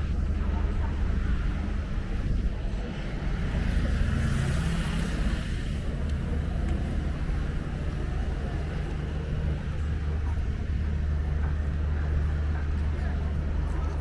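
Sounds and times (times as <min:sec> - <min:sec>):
outdoor city rumble: 0:00.0 - 0:14.0.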